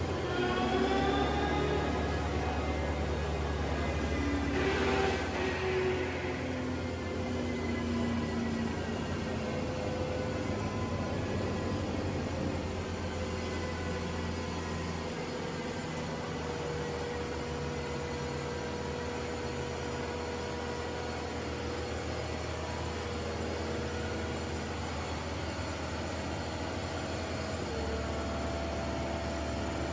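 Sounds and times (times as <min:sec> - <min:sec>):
faint steady whine: 0:00.0 - 0:29.9
track loader engine hum: 0:00.0 - 0:29.9.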